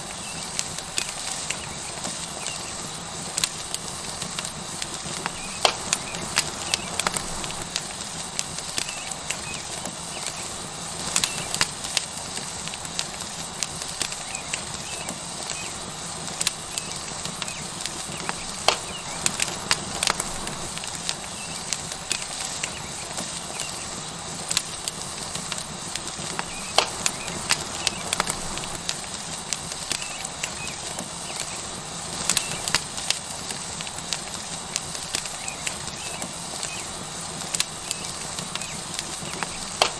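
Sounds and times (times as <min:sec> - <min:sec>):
burning wood crackling and popping: 0:00.0 - 0:39.9
steak sizzling on hot rock: 0:00.0 - 0:39.9.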